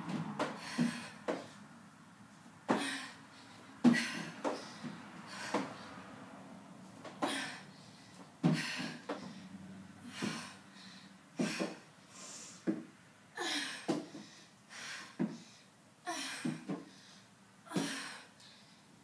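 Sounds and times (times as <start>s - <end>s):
woman breathing hard: 0.4s - 1.7s, 2.7s - 6.2s, 7.2s - 19.0s.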